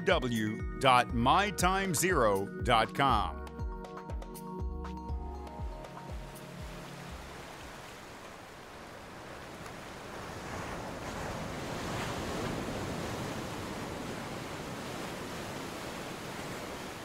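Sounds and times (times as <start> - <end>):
ocean waves and surf: 0.0 - 3.3, 4.9 - 17.0.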